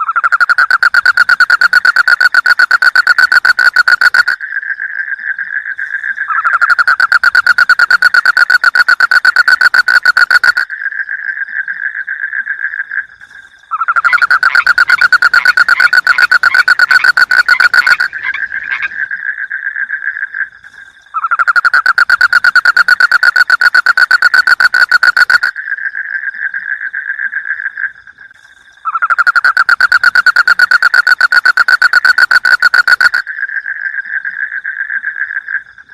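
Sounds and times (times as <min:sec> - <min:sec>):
frogs croaking: 0:00.0 - 0:35.9
quiet frog chorus: 0:00.0 - 0:35.9.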